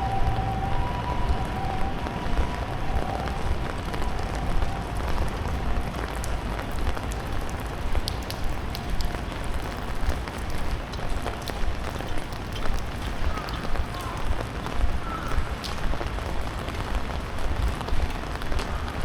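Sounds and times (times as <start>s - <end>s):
rain falling on street: 0.0s - 19.0s
raindrop ticks: 0.0s - 19.0s.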